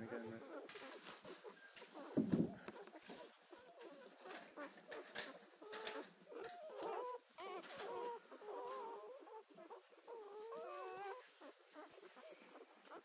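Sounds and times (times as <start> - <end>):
puppies squeaking and whimpering: 0.0 - 13.0.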